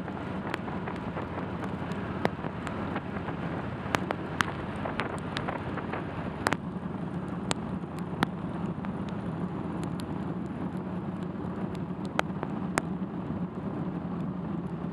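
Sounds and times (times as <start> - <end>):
motorcycle engine running: 0.0 - 14.9
raindrops ticking on windscreen: 0.0 - 14.9
wind and wet-road noise: 0.0 - 14.9.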